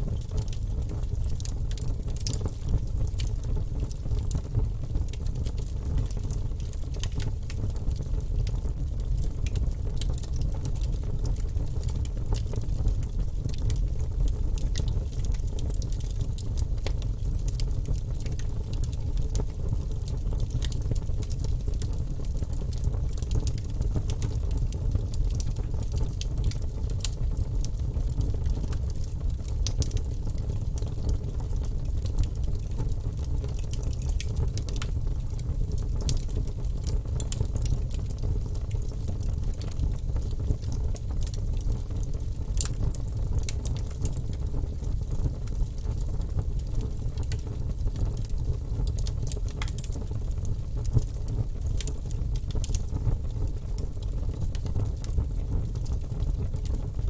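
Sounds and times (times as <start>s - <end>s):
fire crackling and popping: 0.0s - 57.0s
fire rumbling in a fireplace: 0.0s - 57.0s.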